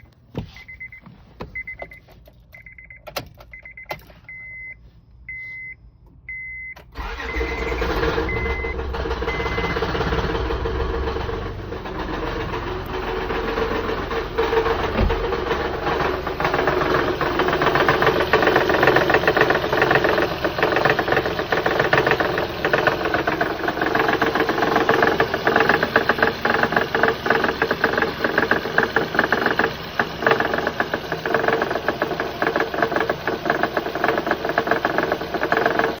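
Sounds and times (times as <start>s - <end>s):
car engine running: 6.9s - 36.0s
rapid engine knocking: 7.0s - 36.0s.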